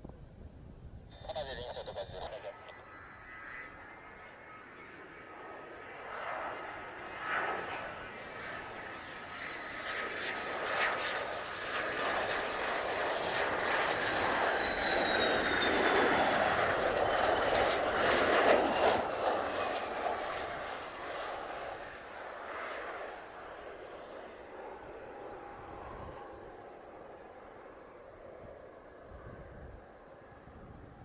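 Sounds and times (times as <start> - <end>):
jet engine passing by: 1.1 - 31.0.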